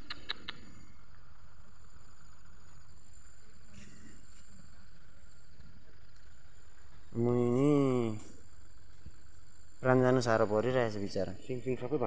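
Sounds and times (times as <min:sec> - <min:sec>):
high-pitched insect drone: 0:00.6 - 0:12.0.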